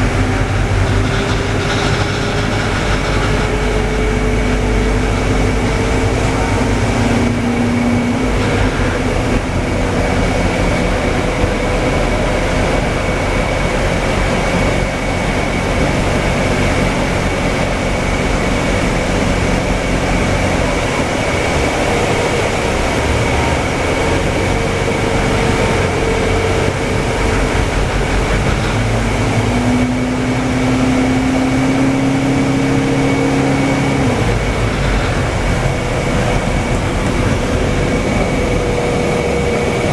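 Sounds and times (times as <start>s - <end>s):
bus diesel engine running: 0.0s - 39.9s
road and body noise rumble: 0.0s - 39.9s
thin high whine: 0.0s - 39.9s.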